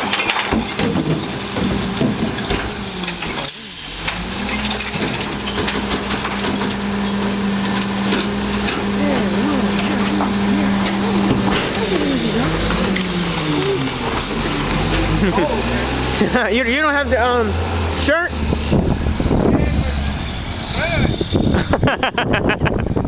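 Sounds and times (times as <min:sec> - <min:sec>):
clanks and rattles: 0:00.0 - 0:20.6
garbage truck engine running: 0:00.0 - 0:23.0.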